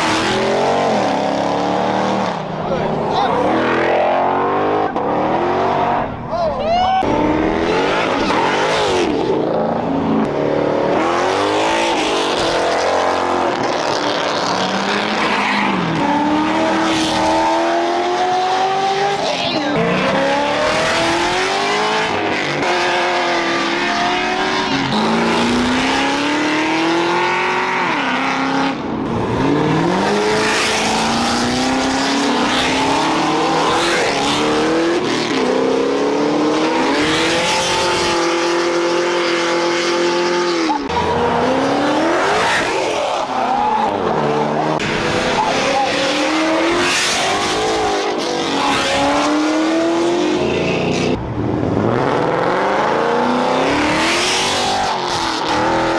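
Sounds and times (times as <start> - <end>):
car engine revving hard: 7.1 - 55.9.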